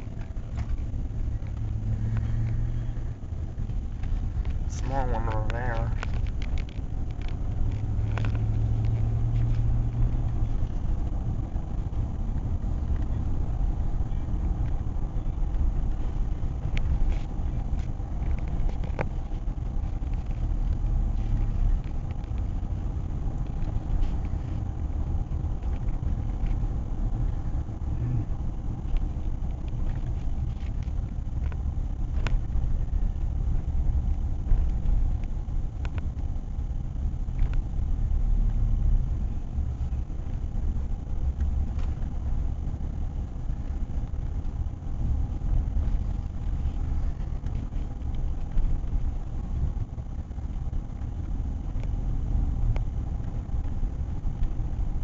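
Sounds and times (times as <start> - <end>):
car cabin road and engine rumble: 0.0 - 55.0.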